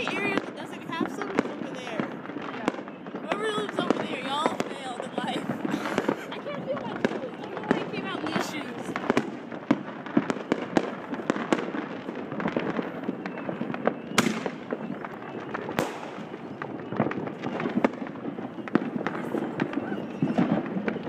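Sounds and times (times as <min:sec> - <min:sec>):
fireworks popping and cracking: 0:00.0 - 0:21.0
loud firework bangs: 0:00.0 - 0:21.0.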